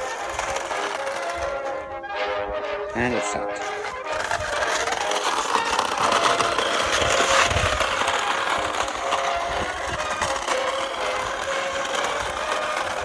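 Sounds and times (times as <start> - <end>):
toy car electric motor whirring: 0.0 - 1.9, 3.6 - 13.0.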